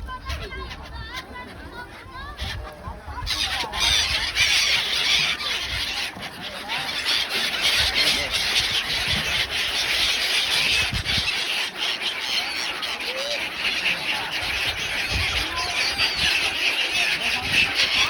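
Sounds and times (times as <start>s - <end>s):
flock of birds chattering: 0.0s - 18.0s.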